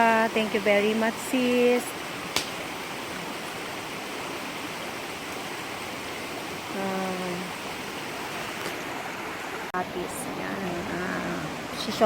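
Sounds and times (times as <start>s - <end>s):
flowing stream water: 0.0s - 12.0s.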